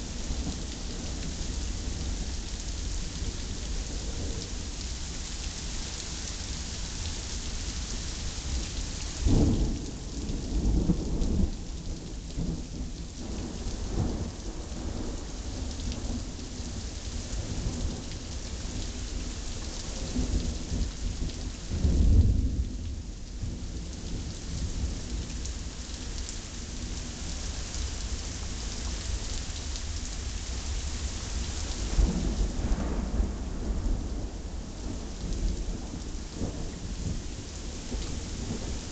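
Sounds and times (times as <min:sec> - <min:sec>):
steady rain hissing: 0:00.0 - 0:38.9.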